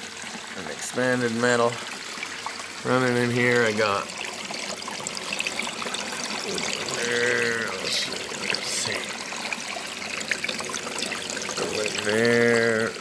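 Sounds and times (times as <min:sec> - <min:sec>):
water running through sluice box: 0:00.0 - 0:13.0.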